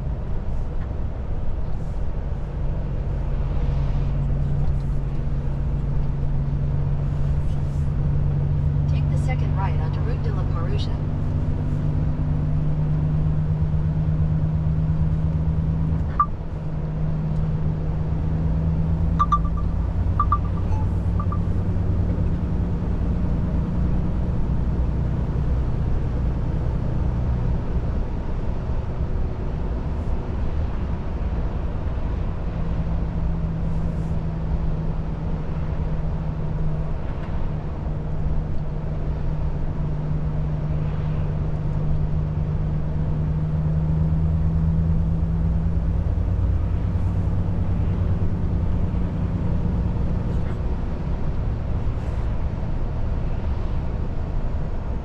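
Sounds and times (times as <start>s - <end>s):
diesel truck engine drone: 0.0s - 55.0s.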